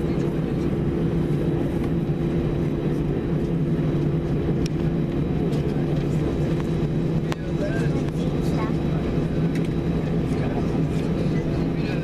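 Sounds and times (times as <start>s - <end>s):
jet engines humming: 0.0s - 12.0s.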